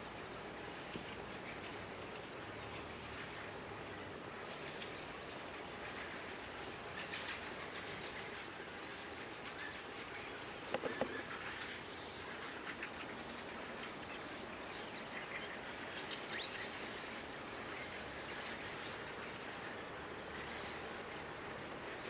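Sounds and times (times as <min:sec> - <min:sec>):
outdoor background hiss: 0:00.0 - 0:22.0
songbirds chirping: 0:00.0 - 0:22.0.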